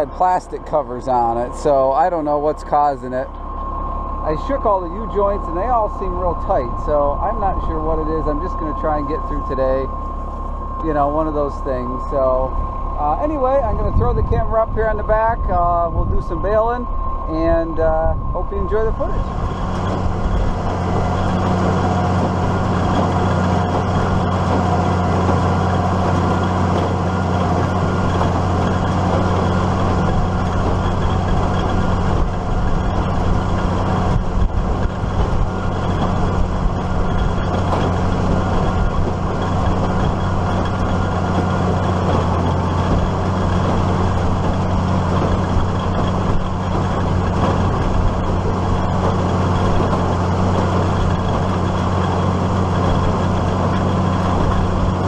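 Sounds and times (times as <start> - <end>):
baler mechanism working: 0.0 - 55.0
tractor diesel engine running: 0.0 - 55.0.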